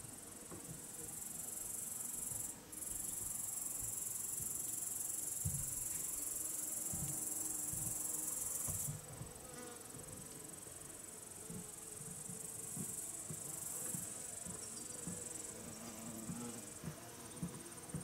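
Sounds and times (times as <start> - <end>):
crickets and grasshoppers chirring: 0.0 - 18.0.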